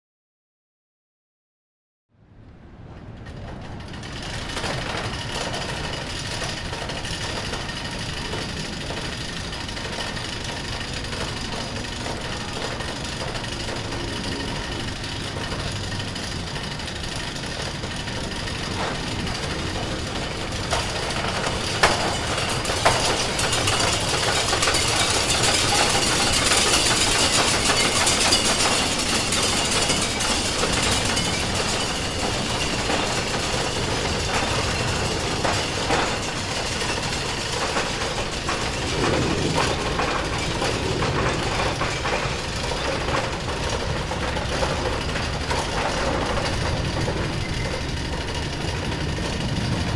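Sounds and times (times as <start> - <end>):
roller coaster rattling on track: 2.4 - 49.9.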